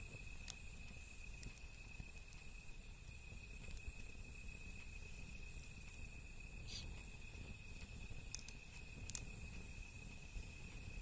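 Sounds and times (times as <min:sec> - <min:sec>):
high-pitched insect trilling: 0:00.0 - 0:11.0
low background hiss: 0:00.0 - 0:11.0
wood fire crackle: 0:00.0 - 0:11.0.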